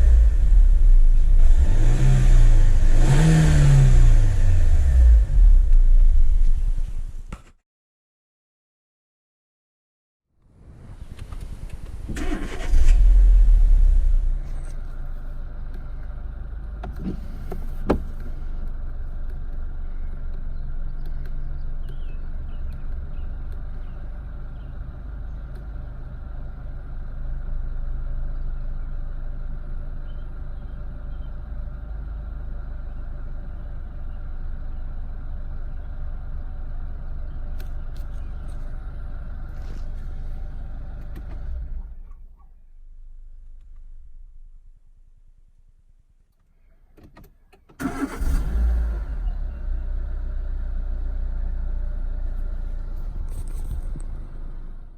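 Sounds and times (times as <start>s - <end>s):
car engine idling: 0.0s - 7.3s, 12.2s - 45.2s, 47.8s - 54.9s.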